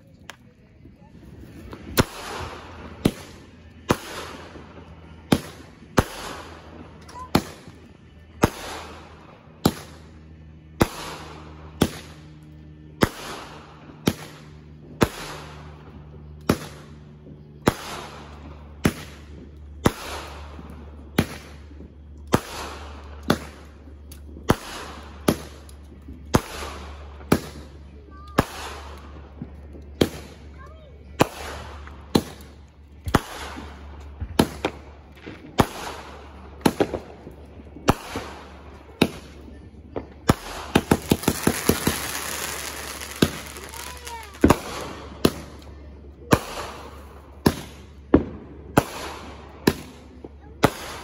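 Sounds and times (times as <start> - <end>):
fireworks banging: 1.2 - 51.0.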